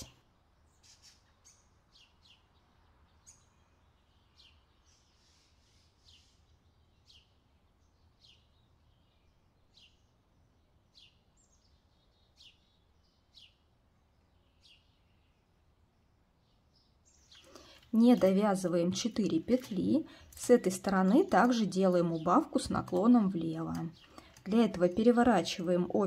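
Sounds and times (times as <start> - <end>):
faint bird chirps: 0.0 - 25.9.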